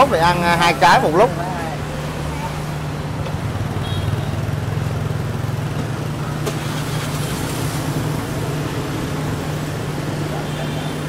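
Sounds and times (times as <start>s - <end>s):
street traffic: 0.0s - 11.0s
vehicle engine idling: 0.0s - 11.0s.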